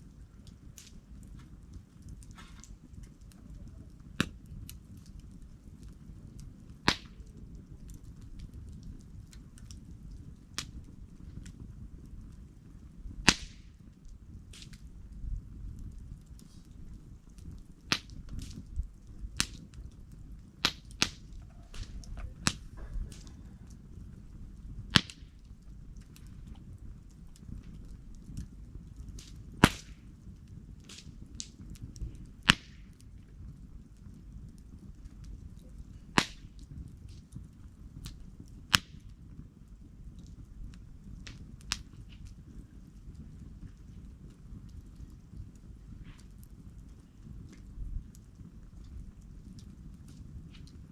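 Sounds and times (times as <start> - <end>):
campfire crackling: 0.0 - 50.9
low rumble of flames: 0.0 - 50.9
sharp fire pops: 0.0 - 50.9.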